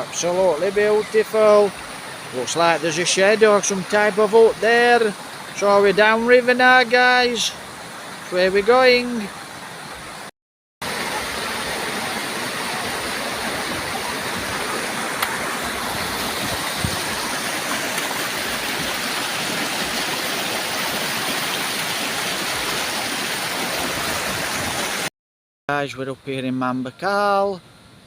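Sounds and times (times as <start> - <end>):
river water rushing: 0.0 - 25.1.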